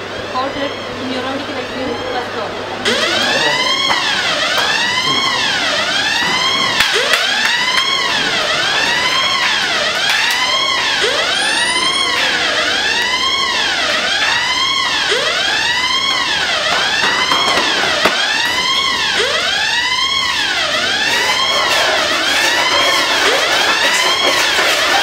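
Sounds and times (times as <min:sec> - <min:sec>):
fire alarm sounders wailing: 0:00.0 - 0:25.0.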